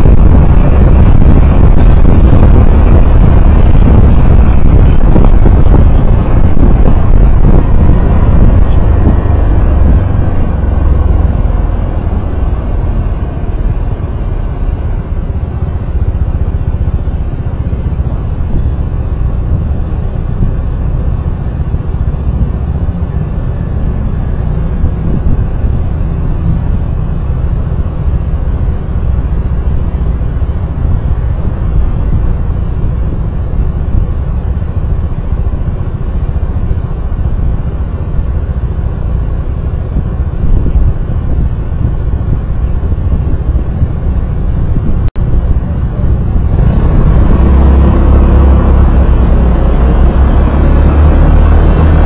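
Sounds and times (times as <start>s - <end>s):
vehicle engine tyre and wind rumble: 0.0s - 52.0s.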